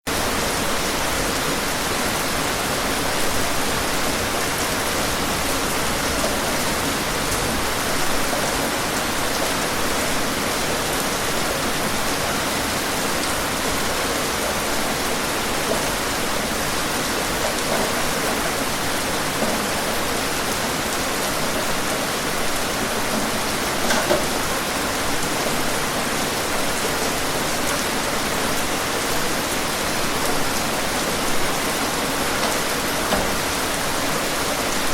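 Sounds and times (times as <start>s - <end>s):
rain falling on surfaces: 0.1s - 34.9s.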